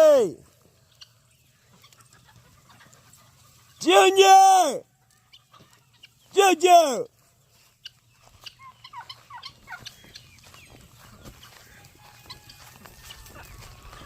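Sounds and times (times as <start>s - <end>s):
faint poultry calls: 0.0s - 14.0s.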